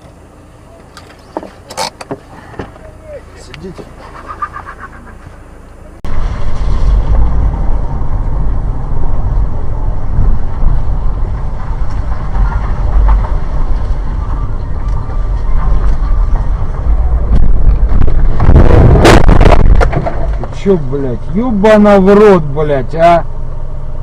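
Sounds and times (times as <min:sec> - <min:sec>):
vehicle road and engine rumble: 0:00.0 - 0:24.0.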